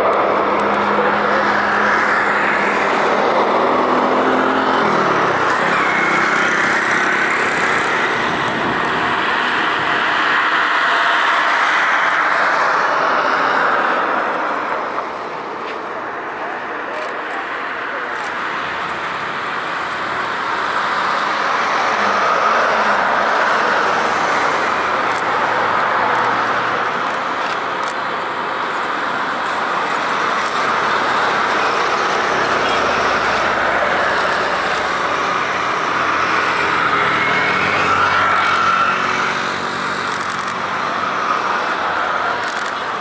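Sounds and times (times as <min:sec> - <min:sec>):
jet engines rushing: 0:00.0 - 0:43.0.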